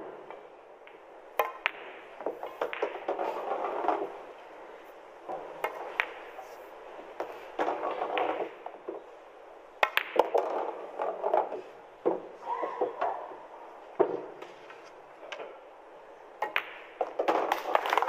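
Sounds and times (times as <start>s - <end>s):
pool balls clicking: 0.2s - 15.6s, 16.4s - 18.0s.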